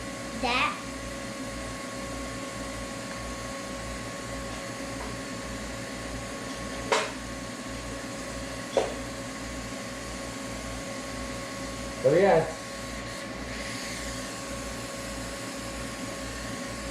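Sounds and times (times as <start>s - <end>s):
machinery humming with whine: 0.0s - 16.9s.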